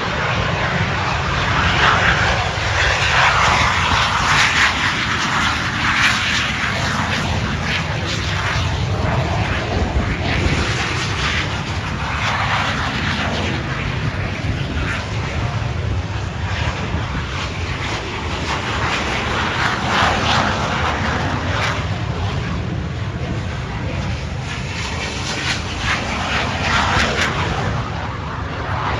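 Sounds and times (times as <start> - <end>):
aircraft engine rushing: 0.0 - 28.9.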